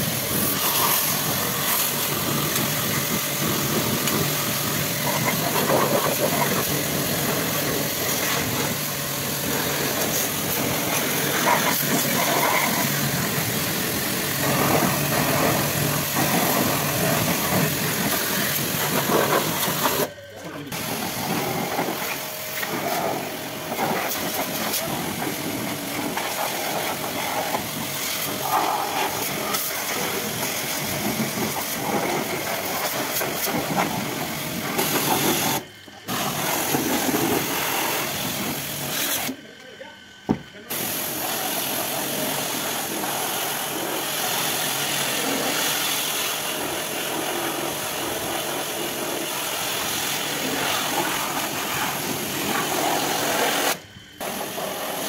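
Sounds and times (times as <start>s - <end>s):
pressure washer spraying: 0.0s - 20.1s, 20.7s - 39.4s, 40.6s - 55.0s.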